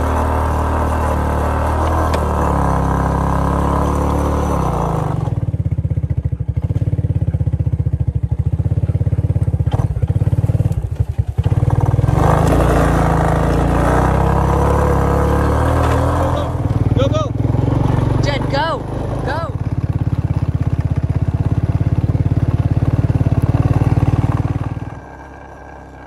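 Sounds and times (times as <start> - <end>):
atv engine running under load: 0.0 - 26.0.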